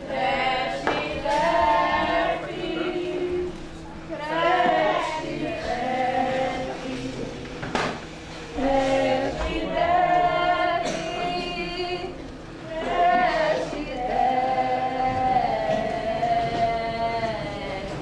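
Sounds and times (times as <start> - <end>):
choir singing long held notes: 0.0 - 7.6, 8.4 - 18.0.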